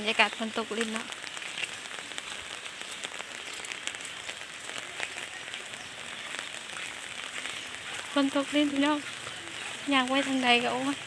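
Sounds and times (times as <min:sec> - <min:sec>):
heavy rain hissing: 0:00.0 - 0:11.0
raindrops ticking on a surface: 0:00.0 - 0:11.0.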